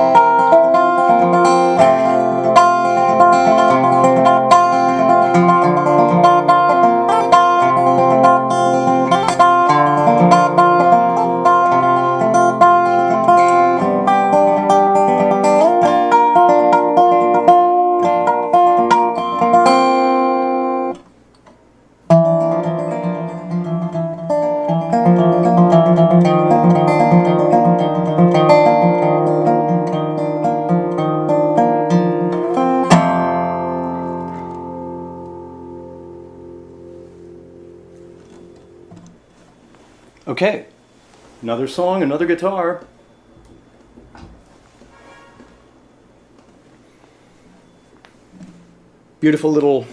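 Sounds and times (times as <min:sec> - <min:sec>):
resophonic guitar playing: 0:00.0 - 0:21.1, 0:22.0 - 0:40.0, 0:46.9 - 0:49.8.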